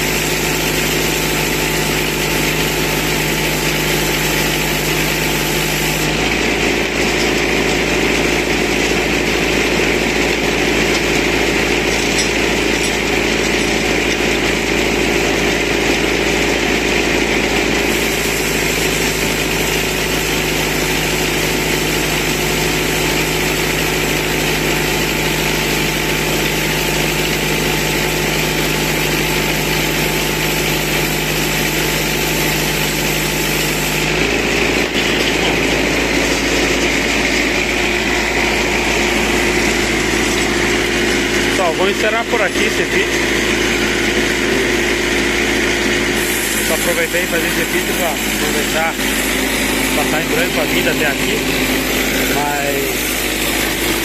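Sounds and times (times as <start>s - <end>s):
saw cutting log: 0.0s - 54.0s
tractor engine drone: 0.0s - 54.0s.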